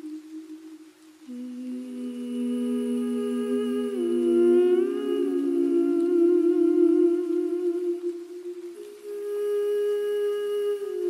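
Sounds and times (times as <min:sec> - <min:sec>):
woman humming: 0:01.3 - 0:11.0.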